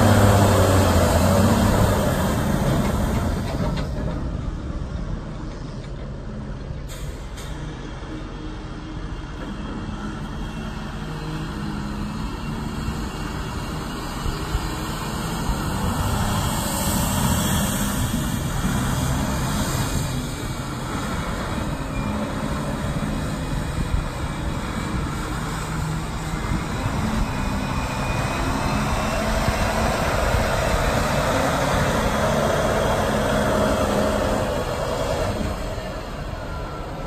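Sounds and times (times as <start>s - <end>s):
dump truck diesel engine: 0.0s - 37.0s.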